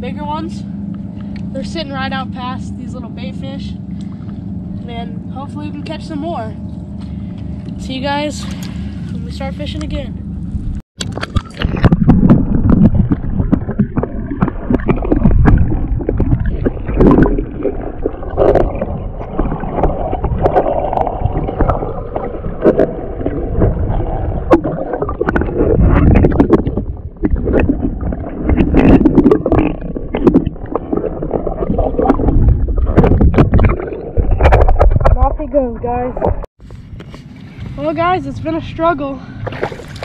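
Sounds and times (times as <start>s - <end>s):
muffled water sloshing underwater: 0.0s - 40.0s.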